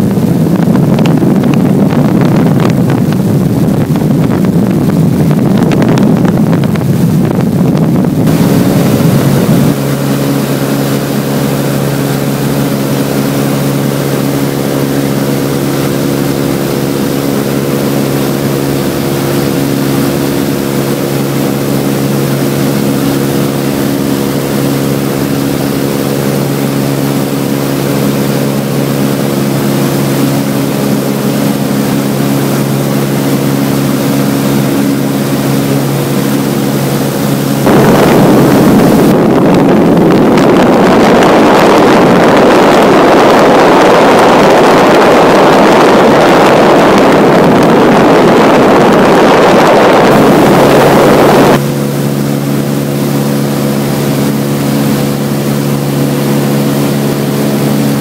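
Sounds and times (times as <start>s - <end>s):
aircraft engine droning: 0.0s - 58.0s
wind noise rushing: 0.0s - 58.0s.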